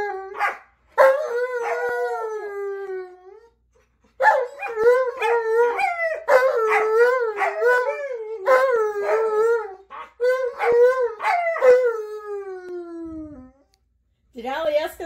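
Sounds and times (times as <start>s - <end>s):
dogs howling: 0.0s - 3.5s, 4.2s - 13.6s.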